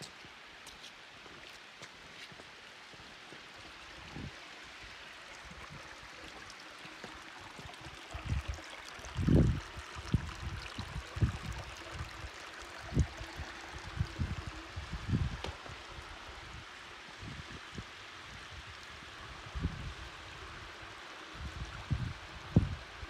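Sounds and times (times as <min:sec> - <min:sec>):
creek water trickling over rocks: 0:00.0 - 0:23.0.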